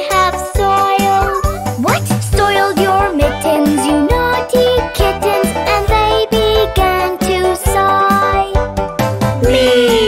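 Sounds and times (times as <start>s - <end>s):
children's nursery rhyme music: 0.0s - 10.0s.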